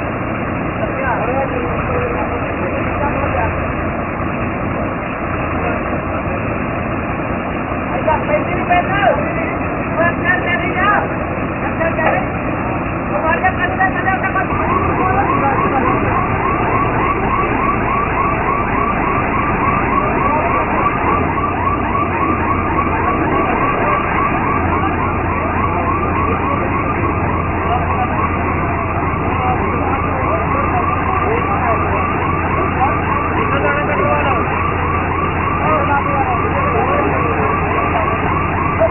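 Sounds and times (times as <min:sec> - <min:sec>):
combine harvester running: 0:00.0 - 0:38.9
warbling siren-like tone: 0:00.0 - 0:38.9.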